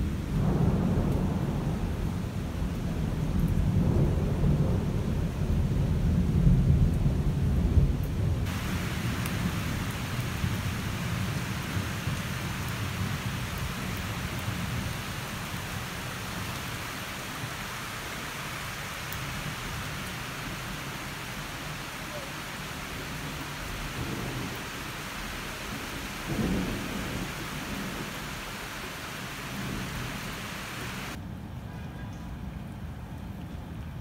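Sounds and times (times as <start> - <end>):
heavy rain hiss: 0.0 - 5.5, 8.4 - 31.2
low roll of thunder: 0.0 - 31.6.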